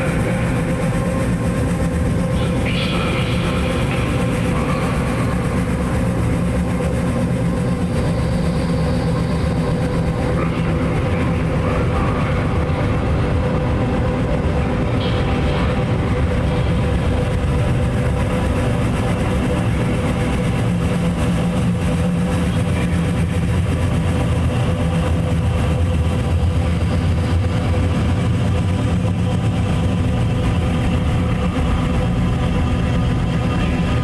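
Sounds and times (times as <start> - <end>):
low noise drone: 0.0 - 34.0.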